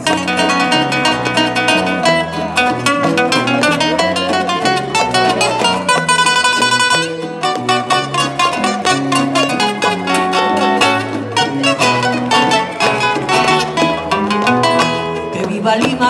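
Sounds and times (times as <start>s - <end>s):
electric bass line: 0.0s - 15.4s
acoustic guitar picking runs: 0.0s - 16.0s
bongos: 0.0s - 16.0s.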